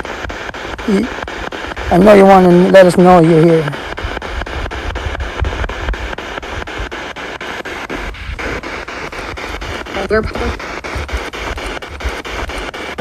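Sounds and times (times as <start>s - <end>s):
radio static hiss: 0.0s - 13.0s
rapid even clicks: 0.0s - 13.0s.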